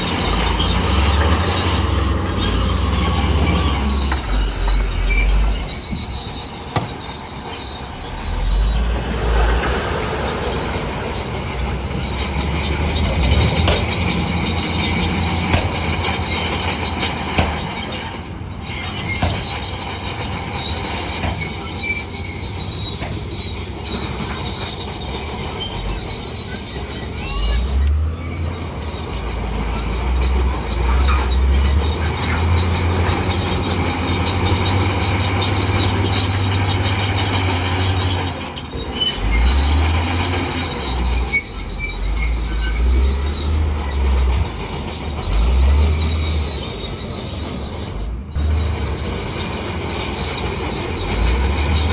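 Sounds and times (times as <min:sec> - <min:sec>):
bulldozer diesel engine: 0:00.0 - 0:51.9
crawler tracks squealing: 0:00.0 - 0:51.9
track clanks: 0:00.0 - 0:51.9.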